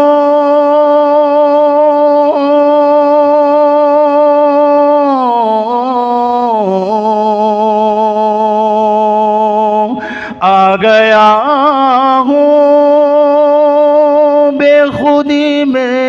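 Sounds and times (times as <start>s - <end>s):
man singing a long wavering note: 0.0s - 16.0s.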